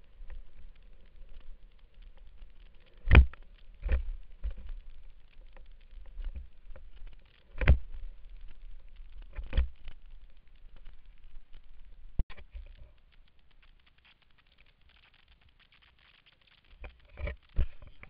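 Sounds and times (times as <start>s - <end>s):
bike tyres rolling over leaves: 0.0s - 18.0s.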